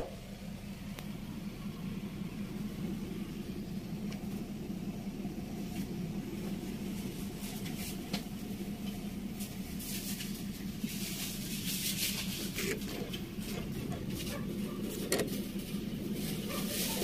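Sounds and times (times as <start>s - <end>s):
low machine hum: 0.0s - 17.0s
light rustling: 1.8s - 17.0s.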